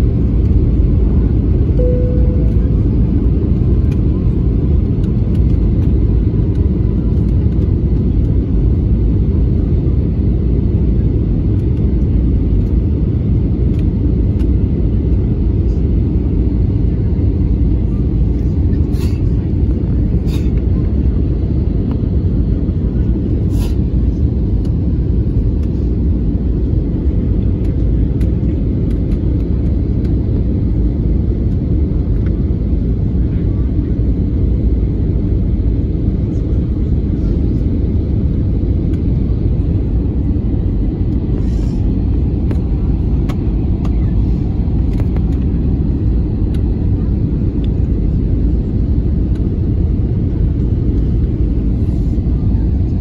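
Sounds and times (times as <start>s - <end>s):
airliner engines rumbling: 0.0s - 53.0s.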